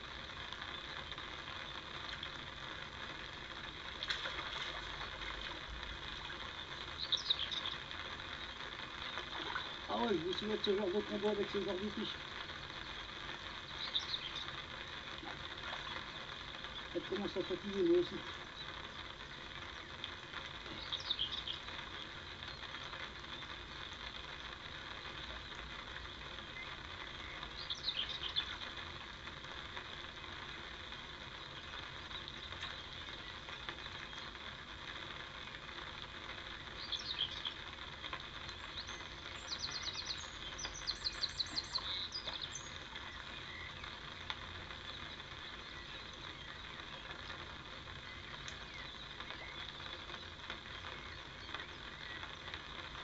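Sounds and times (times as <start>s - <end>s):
outdoor background hiss: 0.0s - 53.0s
small birds chirping: 0.4s - 53.0s.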